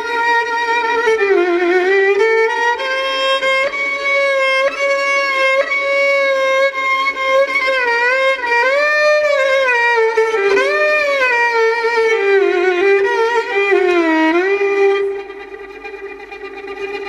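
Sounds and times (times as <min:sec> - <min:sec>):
solo violin slow melody: 0:00.0 - 0:17.0.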